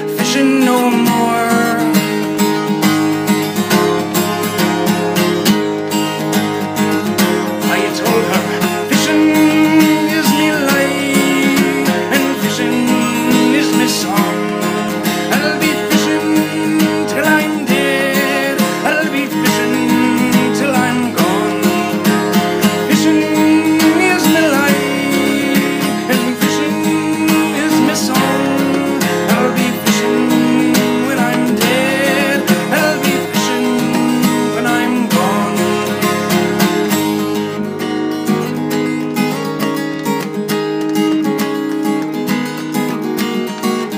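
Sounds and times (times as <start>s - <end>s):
acoustic guitar chords: 0.0s - 43.9s.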